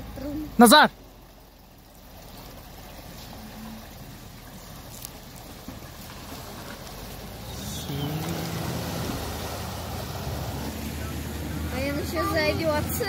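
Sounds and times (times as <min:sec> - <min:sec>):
pickup truck engine running: 0:00.0 - 0:13.0
river water rushing: 0:00.6 - 0:13.0.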